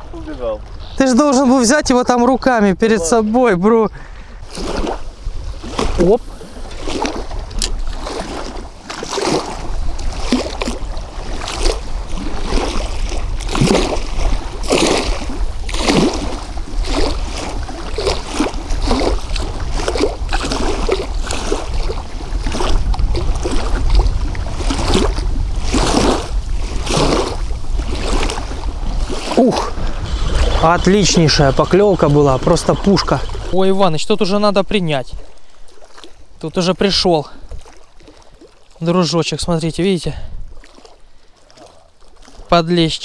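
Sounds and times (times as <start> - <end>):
wind rumble on microphone: 0.0 - 38.5, 39.4 - 40.8
small waves lapping on shore: 0.0 - 43.0.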